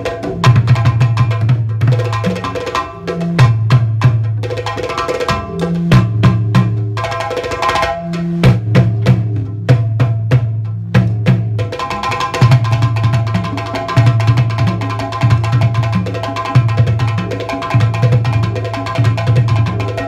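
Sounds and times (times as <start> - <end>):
sharp drum strikes: 0.0 - 17.3.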